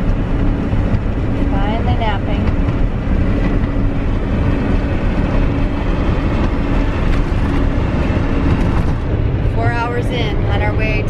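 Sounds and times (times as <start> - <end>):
road and engine noise in a van: 0.0 - 11.0.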